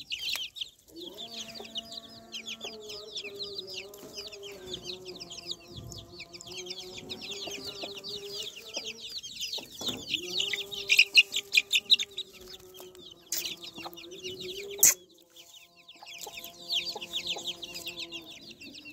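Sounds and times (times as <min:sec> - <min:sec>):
chicks peeping: 0:00.0 - 0:18.9.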